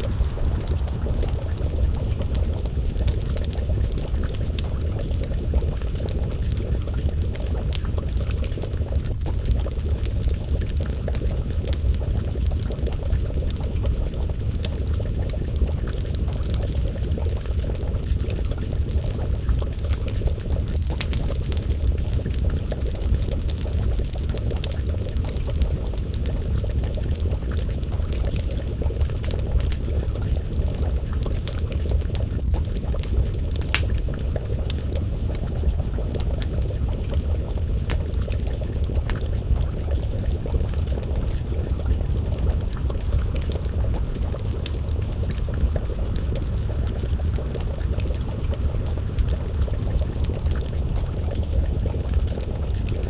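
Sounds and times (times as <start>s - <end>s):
stew simmering and bubbling: 0.0s - 53.0s
wood fire crackling: 0.0s - 53.0s.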